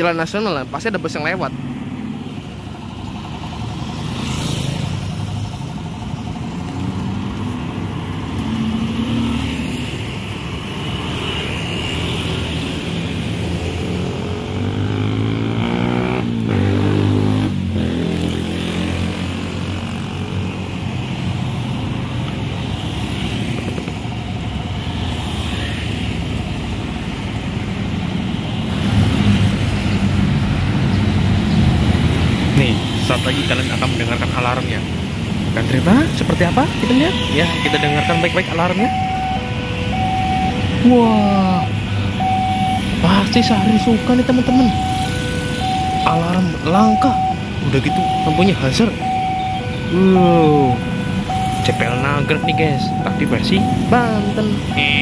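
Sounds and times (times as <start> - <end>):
cars and motorcycles passing: 0.0 - 55.0.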